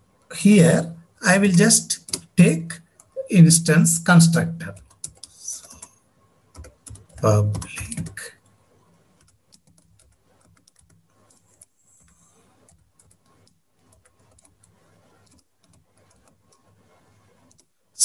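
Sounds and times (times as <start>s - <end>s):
keyboard typing: 1.5s - 17.8s.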